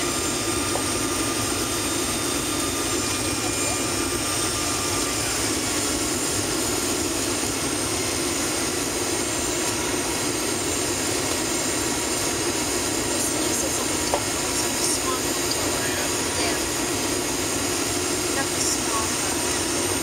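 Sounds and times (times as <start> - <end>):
jet engine drone in cabin: 0.0 - 20.0.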